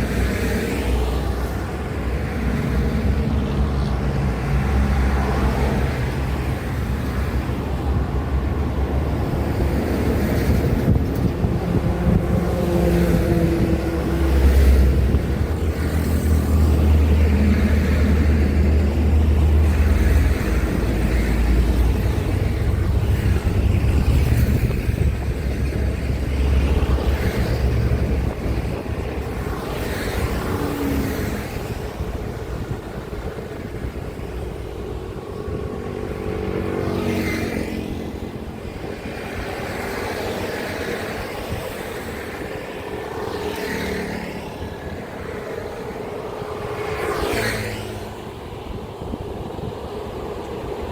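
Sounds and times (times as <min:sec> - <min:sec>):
diesel trucks rumbling by: 0:00.0 - 0:50.9.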